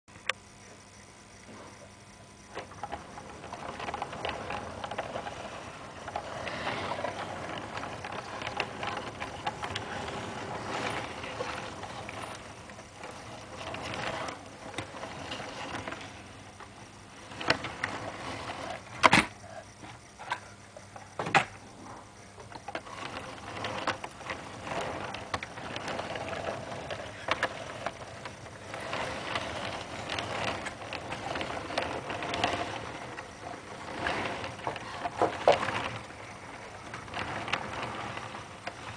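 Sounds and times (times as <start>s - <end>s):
model train wheels rattling: 2.5s - 38.9s.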